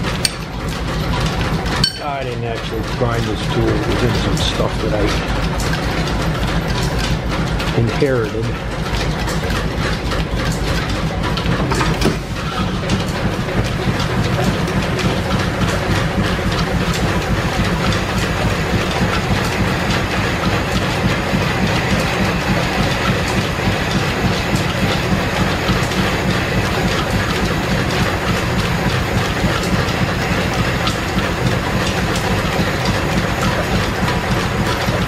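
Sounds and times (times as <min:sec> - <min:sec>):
belt-driven lathe clattering: 0:00.0 - 0:35.0.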